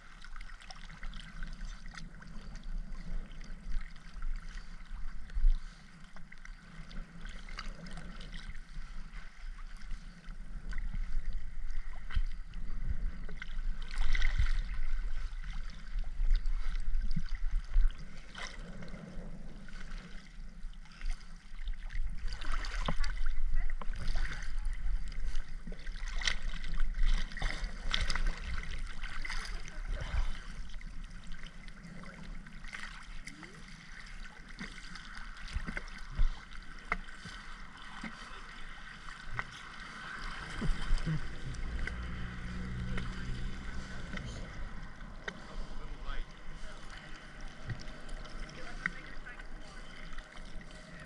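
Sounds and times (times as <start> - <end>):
underwater bubbling: 0.0 - 51.0.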